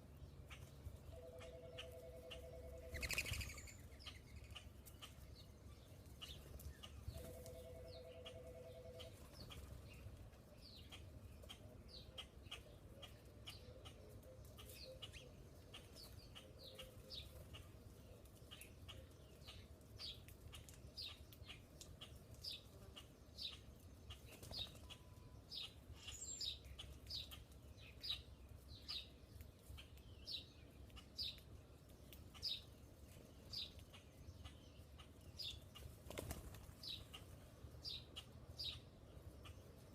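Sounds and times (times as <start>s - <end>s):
small bird chirping: 0.1s - 39.9s.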